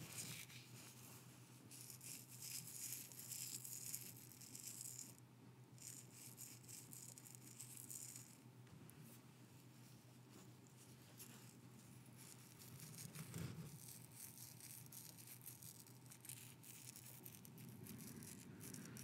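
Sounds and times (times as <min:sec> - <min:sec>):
soft scratchy rustling: 0:00.0 - 0:05.0, 0:05.8 - 0:19.0.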